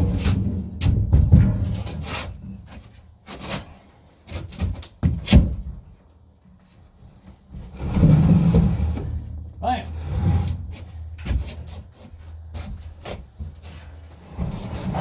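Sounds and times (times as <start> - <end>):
fuel tank knocking and scraping: 0.0 - 6.0, 7.3 - 15.0.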